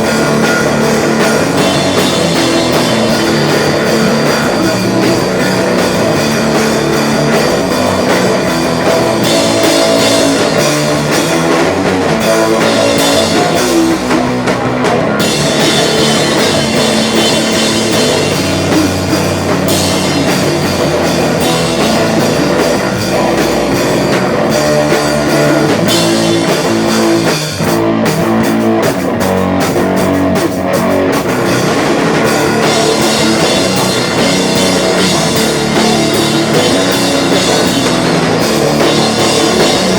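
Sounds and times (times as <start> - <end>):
drum kit: 0.0 - 39.9
electric guitar: 0.0 - 39.9
rock band playing live: 0.0 - 39.9.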